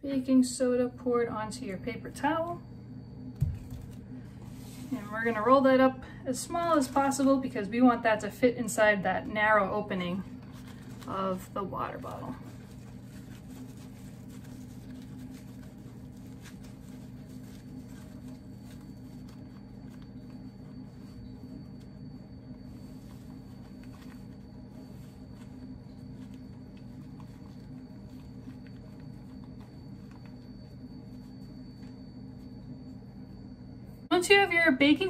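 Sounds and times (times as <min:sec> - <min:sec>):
low room hum: 0:00.0 - 0:35.0
paper towel crinkling: 0:03.4 - 0:33.4.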